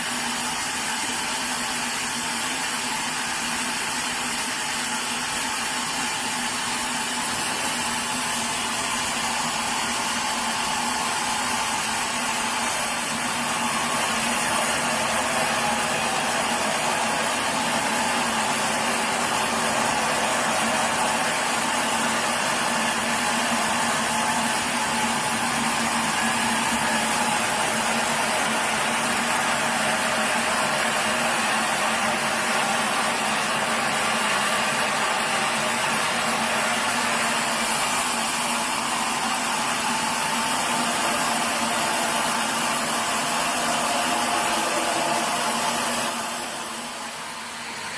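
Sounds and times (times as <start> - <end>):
sawmill machinery running: 0.0 - 47.9.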